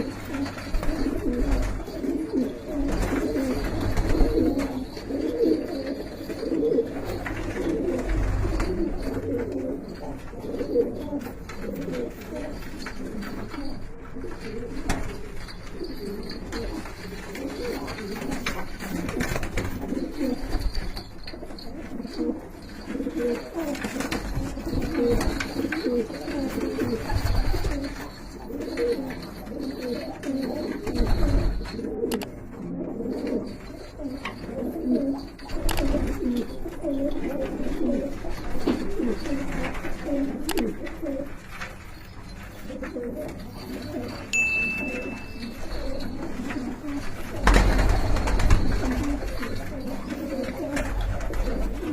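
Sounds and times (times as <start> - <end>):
pigeons cooing: 0.0 - 51.9.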